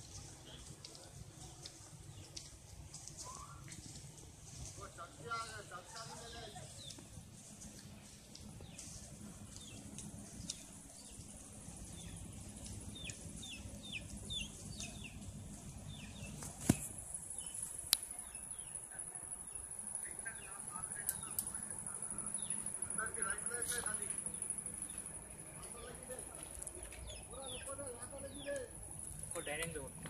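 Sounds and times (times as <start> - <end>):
birds chirping: 0.0 - 30.0
low outdoor rumble: 0.0 - 30.0.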